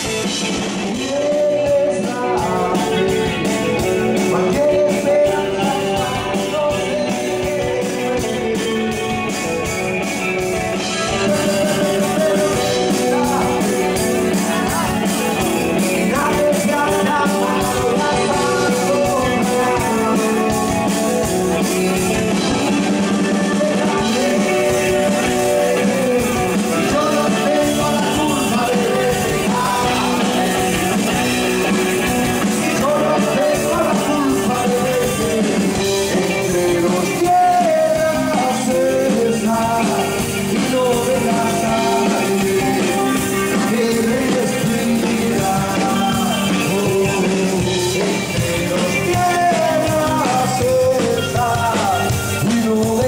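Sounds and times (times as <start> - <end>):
bass guitar: 0.0 - 53.0
drums: 0.0 - 53.0
electric guitar: 0.0 - 53.0
men singing: 0.9 - 9.8, 10.5 - 53.0.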